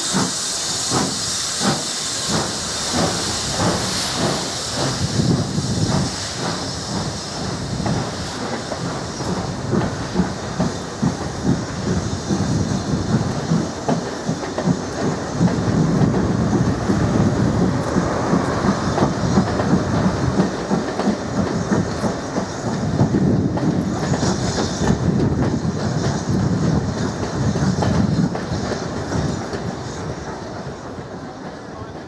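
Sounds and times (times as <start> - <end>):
train wheels clattering: 0.0 - 32.0.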